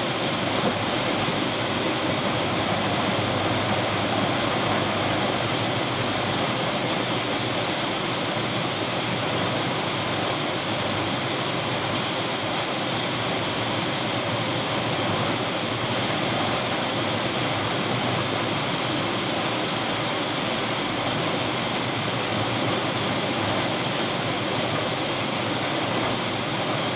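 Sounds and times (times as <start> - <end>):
rough sea: 0.0 - 26.9
wind: 0.0 - 26.9.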